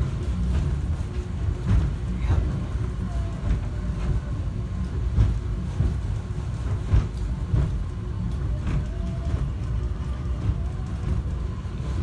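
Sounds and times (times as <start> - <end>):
subway train low rumble: 0.0 - 12.0
train knocks and jolts: 0.0 - 12.0.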